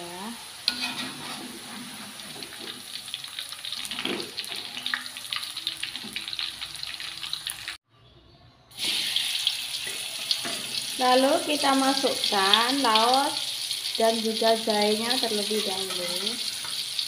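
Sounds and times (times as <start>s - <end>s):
potatoes sizzling in hot oil: 0.0s - 7.8s, 8.8s - 17.0s.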